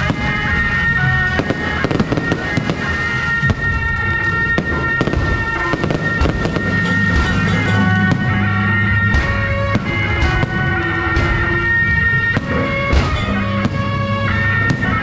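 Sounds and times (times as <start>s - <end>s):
fireworks bangs and crackles: 0.0s - 15.0s
music with held high note: 0.0s - 15.0s.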